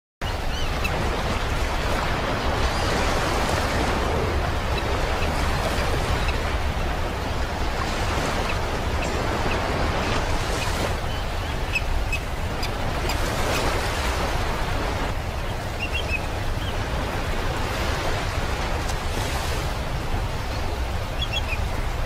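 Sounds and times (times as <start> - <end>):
ocean surf washing onto beach: 0.4 - 22.0.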